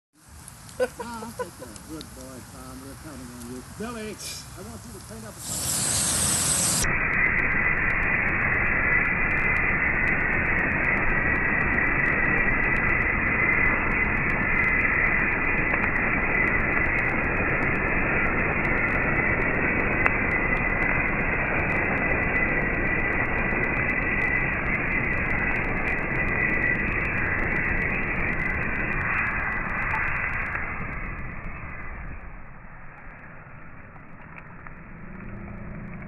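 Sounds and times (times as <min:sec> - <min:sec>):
muffled rushing of bellows fire: 0:00.2 - 0:36.0
thin steady whine: 0:00.2 - 0:36.0.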